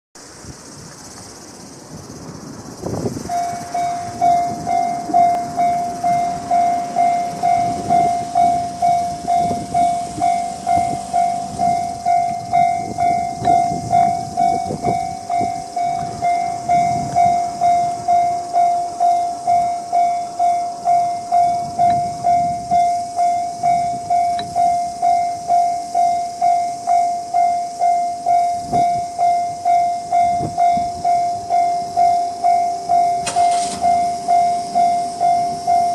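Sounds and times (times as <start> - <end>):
electronic level-crossing bell: 3.3 - 35.9.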